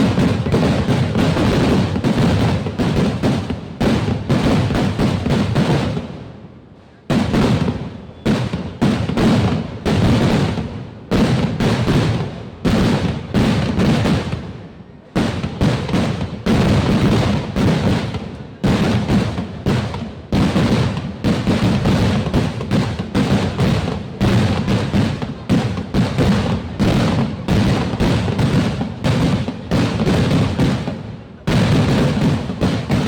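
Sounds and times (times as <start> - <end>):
firework explosions: 0.0 - 33.0.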